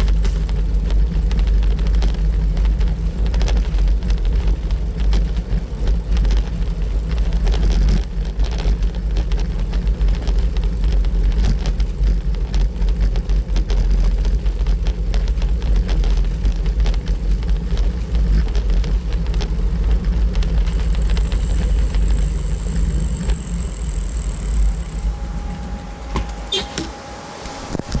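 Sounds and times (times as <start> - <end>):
camera rattling over stone paving: 0.0 - 25.1
wind rumble on microphone: 0.0 - 28.0.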